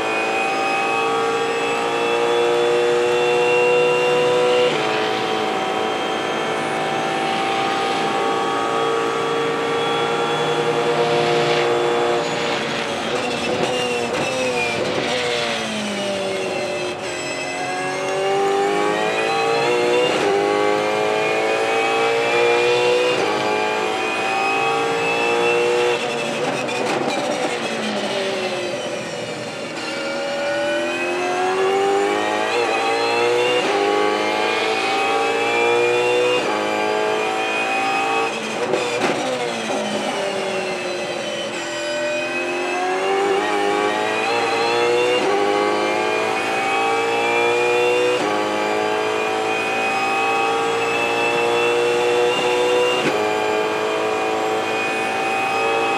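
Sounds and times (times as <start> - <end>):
race car engine shifting gears: 0.4 - 28.8, 30.7 - 55.9.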